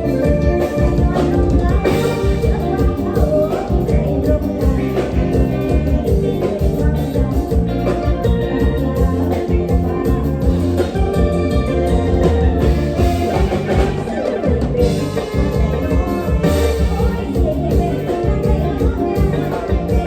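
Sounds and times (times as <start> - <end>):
live band playing upbeat folk tune: 0.0 - 20.0.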